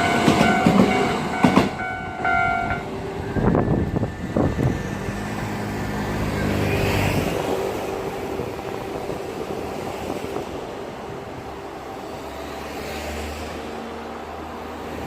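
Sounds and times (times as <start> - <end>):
outdoor vehicle noise: 0.0 - 15.0
train rumble: 0.0 - 15.0.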